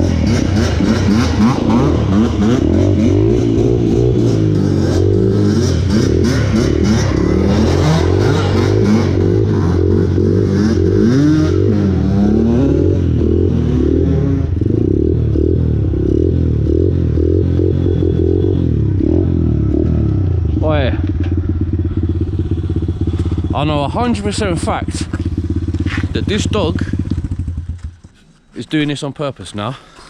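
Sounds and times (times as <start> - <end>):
small off-road engine revving: 0.0 - 28.0.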